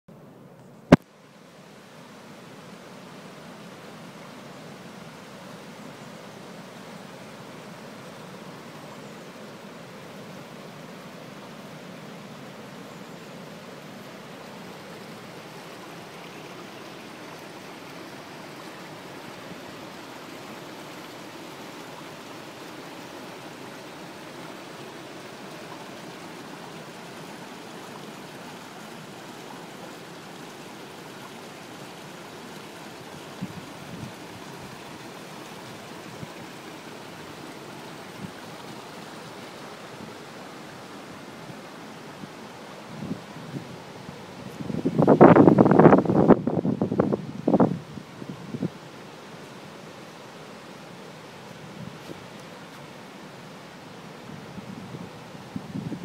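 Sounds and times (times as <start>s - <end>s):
flowing river water: 0.1s - 56.0s.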